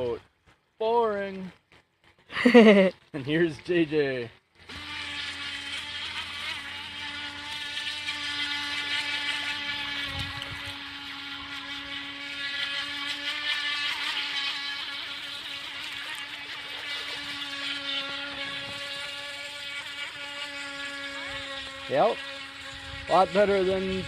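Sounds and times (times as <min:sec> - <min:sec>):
boat motor high-pitched whine: 0:03.8 - 0:24.0.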